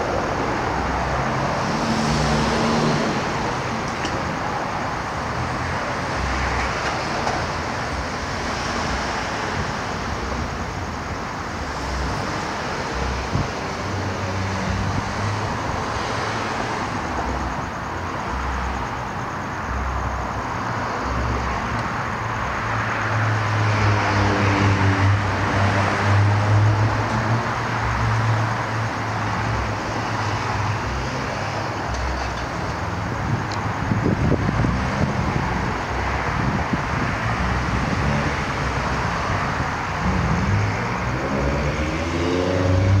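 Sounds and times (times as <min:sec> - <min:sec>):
road traffic hiss: 0:00.0 - 0:43.0
vehicle engine hum: 0:00.0 - 0:43.0.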